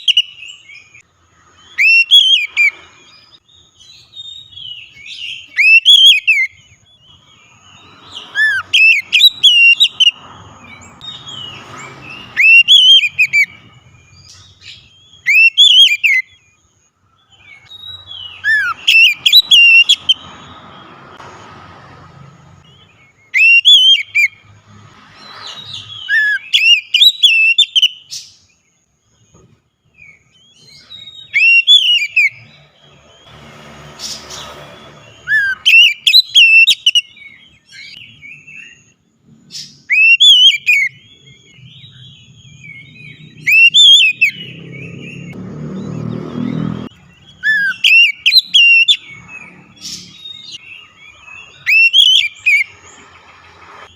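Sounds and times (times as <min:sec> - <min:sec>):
magpie-robin singing: 0:00.0 - 0:20.9, 0:22.7 - 0:24.5, 0:25.2 - 0:28.6, 0:29.9 - 0:33.3, 0:34.8 - 0:53.9.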